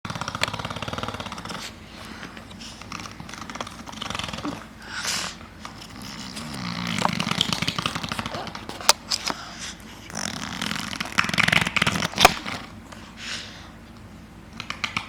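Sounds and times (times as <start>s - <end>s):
breathy puff: 0.2s - 10.8s, 12.3s - 13.8s.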